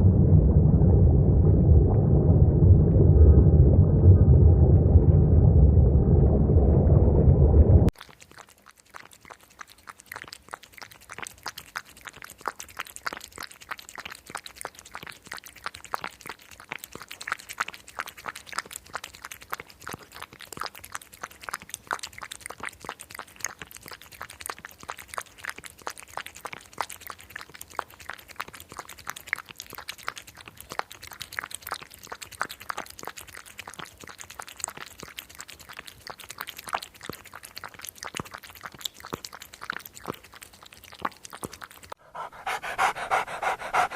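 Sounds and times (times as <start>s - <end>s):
cat licking its paw: 7.9s - 43.9s.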